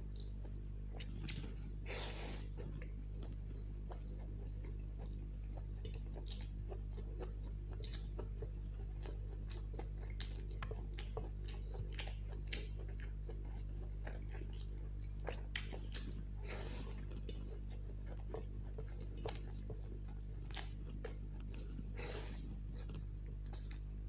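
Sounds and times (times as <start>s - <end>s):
chewing noodles: 0.0s - 24.0s.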